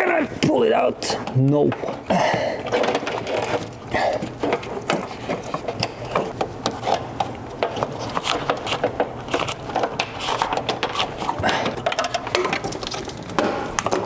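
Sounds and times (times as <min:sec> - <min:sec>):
plastic clicks and rattles: 0:02.7 - 0:14.0.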